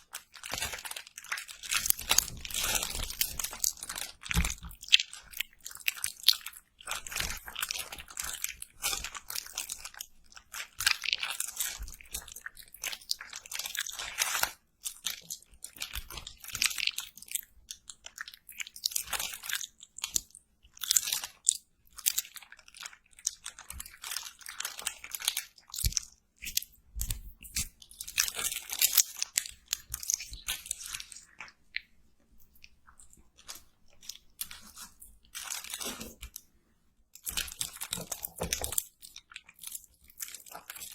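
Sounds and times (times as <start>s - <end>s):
crunchy food chewing: 0.0s - 36.5s, 37.2s - 40.9s.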